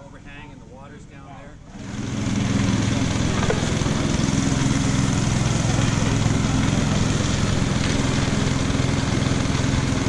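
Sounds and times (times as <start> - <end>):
road noise: 1.6 - 10.0
motorcycle engine running: 1.7 - 10.0.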